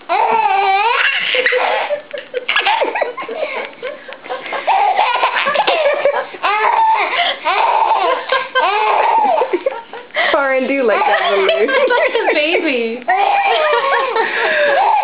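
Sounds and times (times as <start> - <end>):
baby laughing: 0.1 - 9.7, 10.9 - 12.5, 13.1 - 15.0.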